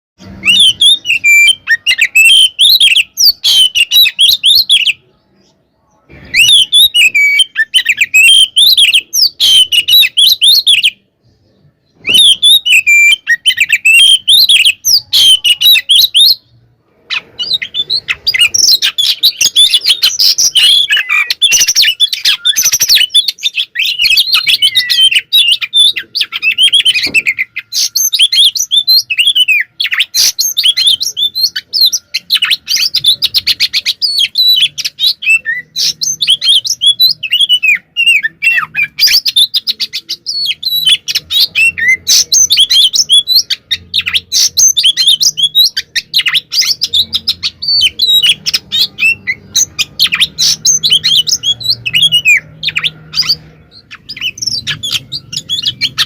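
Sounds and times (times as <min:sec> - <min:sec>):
bird singing whistled phrases: 0:00.2 - 0:05.2, 0:05.8 - 0:11.0, 0:11.8 - 0:16.5, 0:17.1 - 0:56.0.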